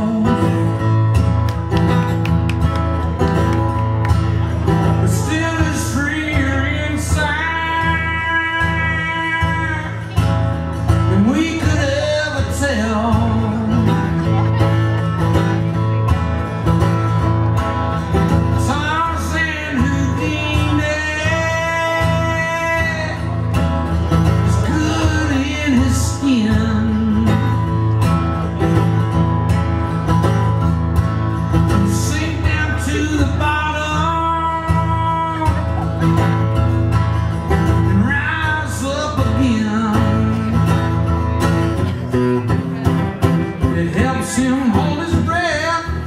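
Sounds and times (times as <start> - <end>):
live country band playing: 0.0 - 46.0
strummed acoustic guitar: 0.0 - 46.0.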